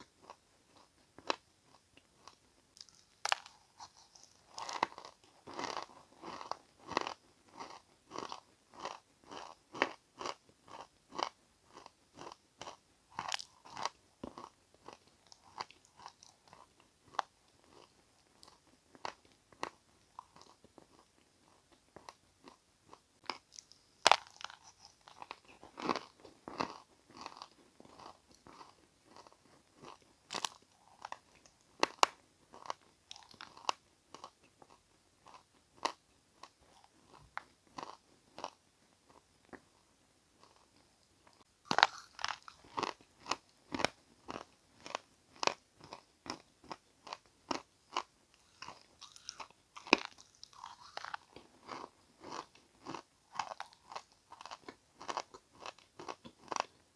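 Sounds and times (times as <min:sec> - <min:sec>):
person chewing crunchy crumbs: 0:00.0 - 0:56.9.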